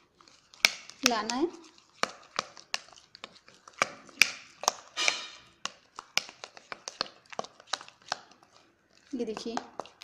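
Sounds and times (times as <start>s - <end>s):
spoon scraping plastic bowl: 0.0s - 10.0s.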